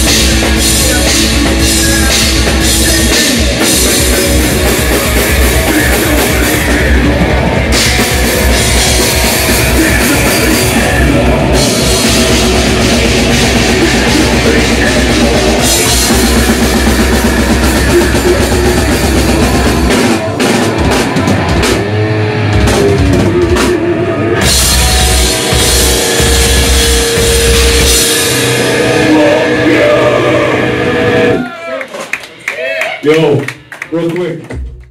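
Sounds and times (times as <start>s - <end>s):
drum kit with cymbals: 0.0s - 30.0s
distorted electric guitar: 0.0s - 31.6s
heavy rock band playing: 0.0s - 34.9s.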